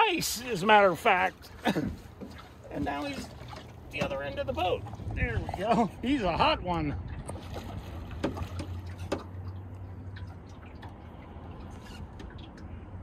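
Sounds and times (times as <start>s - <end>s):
low steady hum: 0.0s - 13.0s
water lapping against boat hull: 0.0s - 13.0s.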